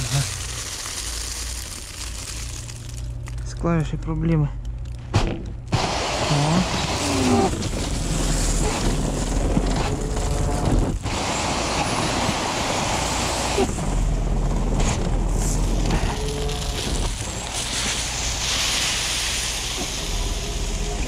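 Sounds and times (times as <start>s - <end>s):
truck diesel engine running: 0.0s - 21.0s.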